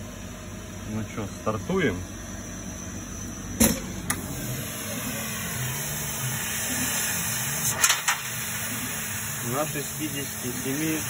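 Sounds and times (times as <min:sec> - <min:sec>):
laser cutter humming and hissing: 0:00.0 - 0:11.0.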